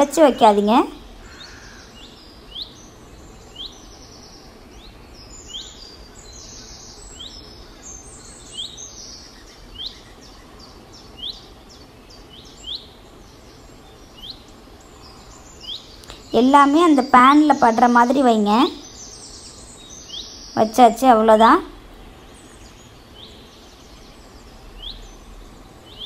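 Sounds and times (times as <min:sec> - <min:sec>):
bird chirping: 0:00.0 - 0:26.0
faint background noise: 0:00.0 - 0:26.0.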